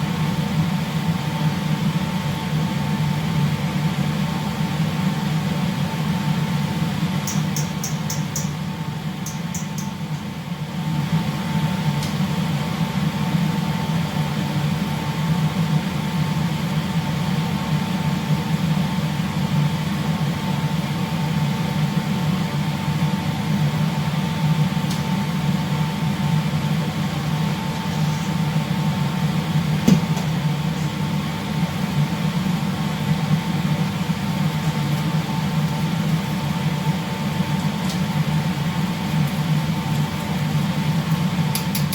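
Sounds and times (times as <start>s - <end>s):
low machinery hum: 0.0s - 41.9s.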